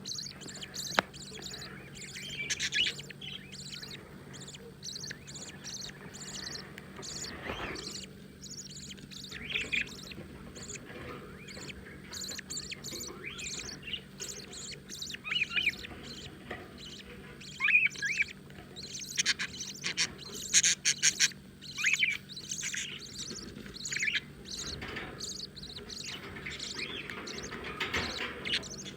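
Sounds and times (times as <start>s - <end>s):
chicks chirping: 0.0s - 28.9s.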